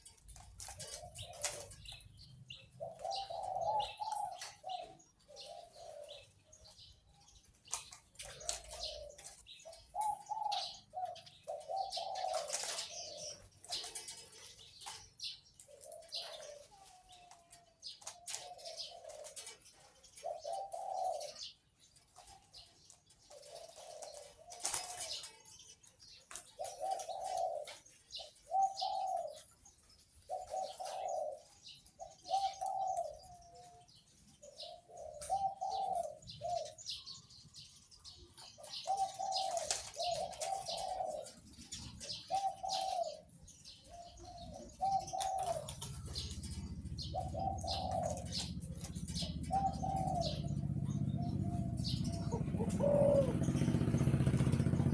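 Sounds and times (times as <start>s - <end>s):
dove cooing: 0.0s - 54.9s
small birds chirping: 0.0s - 54.9s.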